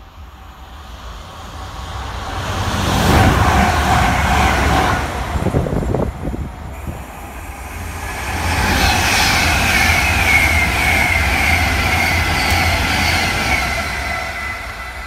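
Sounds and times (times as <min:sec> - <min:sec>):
electric train passing at speed: 0:00.0 - 0:15.0.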